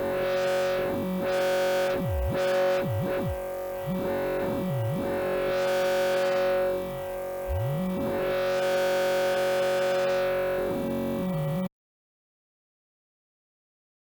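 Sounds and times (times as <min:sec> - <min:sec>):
synthesizer drone with pitch glides: 0:00.0 - 0:11.7.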